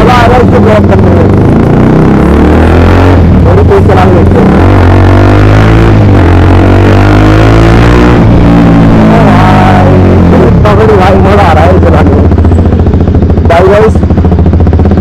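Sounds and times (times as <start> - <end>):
motorcycle engine with loud exhaust: 0.0 - 15.0.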